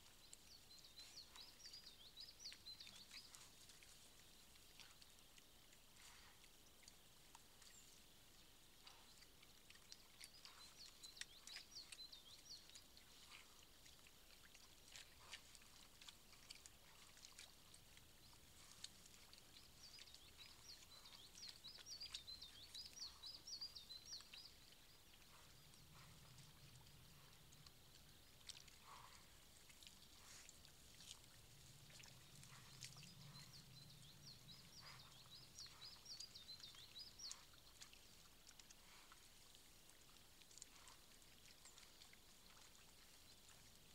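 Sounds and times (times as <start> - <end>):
boar rooting and splashing: 0.0 - 43.9.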